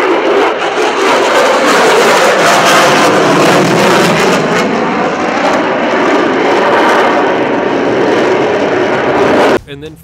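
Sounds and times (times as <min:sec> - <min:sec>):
jet engine roar: 0:00.0 - 0:10.0.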